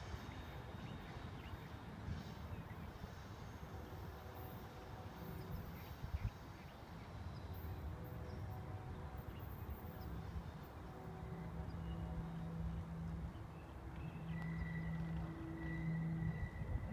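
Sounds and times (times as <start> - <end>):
distant freight train rumble: 0.0 - 16.9.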